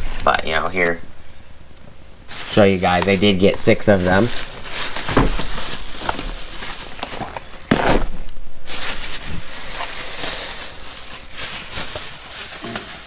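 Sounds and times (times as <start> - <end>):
plastic packaging rustling: 2.2 - 13.0.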